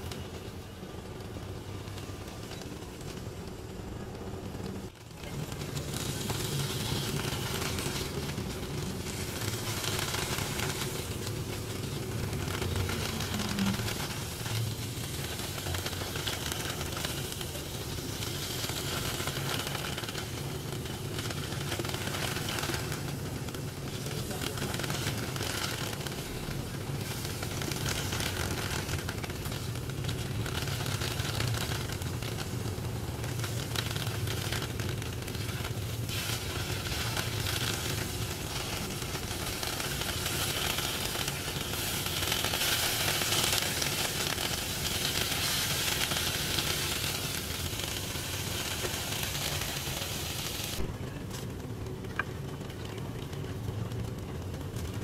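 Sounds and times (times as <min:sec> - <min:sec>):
steady low hum: 0:00.0 - 0:55.0
tofu sizzling in frying pan: 0:05.7 - 0:50.9.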